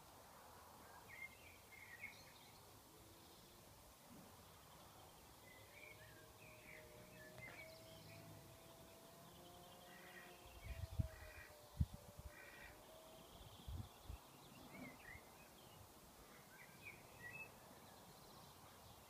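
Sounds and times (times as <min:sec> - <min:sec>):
small birds chirping: 0:00.9 - 0:19.0.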